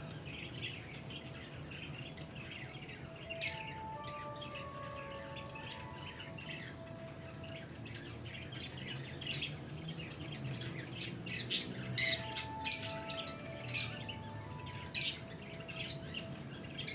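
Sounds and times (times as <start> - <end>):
lovebirds chirping: 0.0 - 16.9
shrill bird squawks: 0.6 - 9.5, 11.3 - 16.9.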